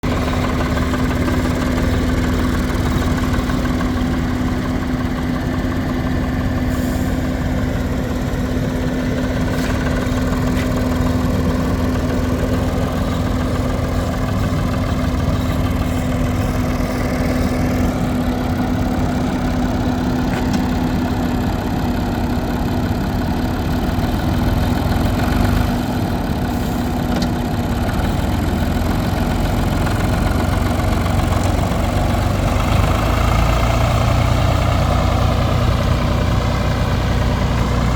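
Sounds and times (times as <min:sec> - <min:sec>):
tractor diesel engine idling: 0:00.0 - 0:37.9.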